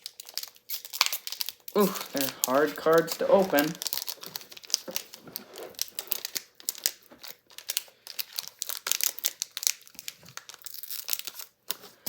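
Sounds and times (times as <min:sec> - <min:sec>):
wrapper crinkling and tearing: 0:00.0 - 0:12.0.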